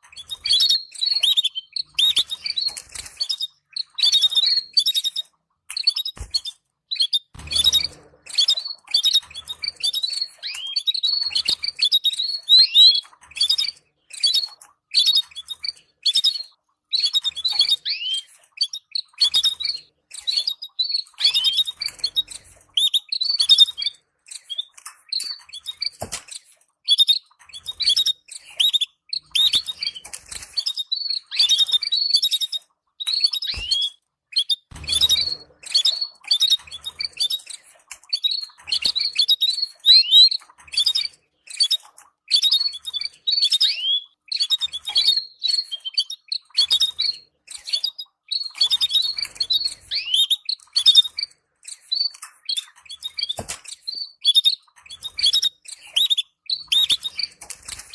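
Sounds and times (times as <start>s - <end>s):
canary twittering: 0.1s - 57.9s.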